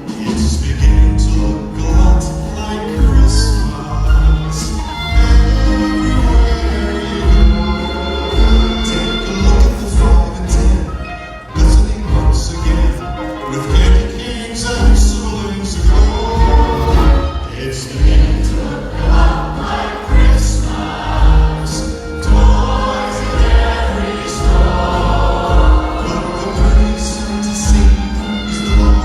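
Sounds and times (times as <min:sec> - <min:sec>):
choir singing: 0:00.0 - 0:29.0
music with a regular beat: 0:00.0 - 0:29.0.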